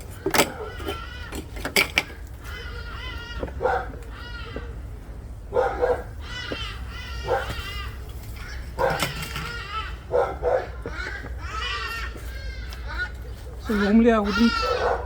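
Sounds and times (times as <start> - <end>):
animal crying out: 0.2 - 4.8, 5.6 - 15.0.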